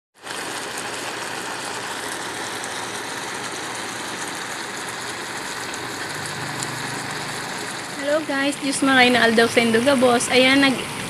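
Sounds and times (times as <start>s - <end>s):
food sizzling in a frying pan: 0.3s - 10.9s.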